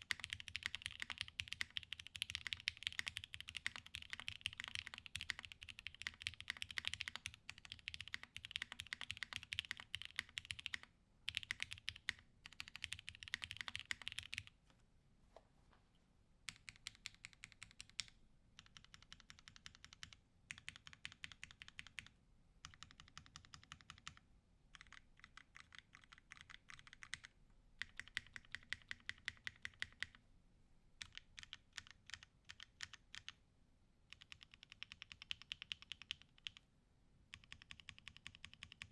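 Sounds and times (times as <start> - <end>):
mechanical keyboard typing: 0.0 - 14.5, 16.5 - 30.2, 31.0 - 33.4, 34.1 - 36.6, 37.3 - 38.9.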